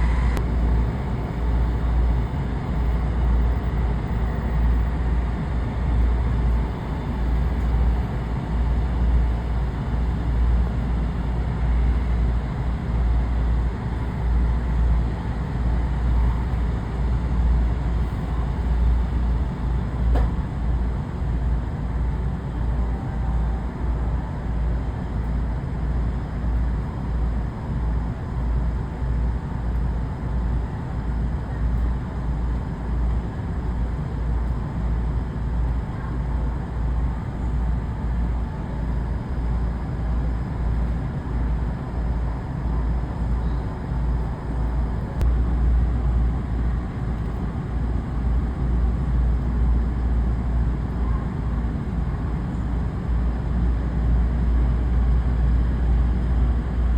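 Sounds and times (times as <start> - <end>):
low rumble of railway platform: 0.0 - 56.9.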